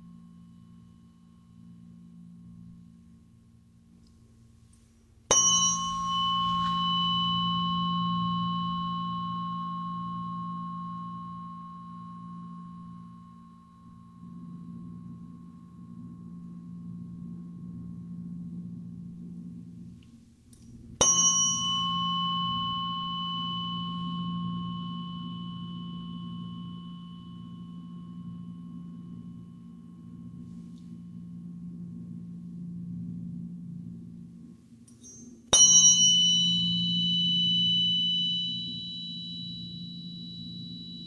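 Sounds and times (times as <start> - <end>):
steady low hum: 0.0 - 41.0
tuning fork struck and ringing: 0.0 - 41.0.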